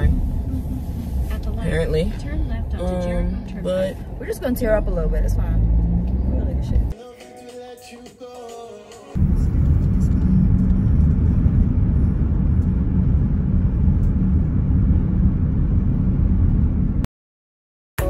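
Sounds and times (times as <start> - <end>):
car rumbling: 0.0 - 7.0, 9.2 - 17.1.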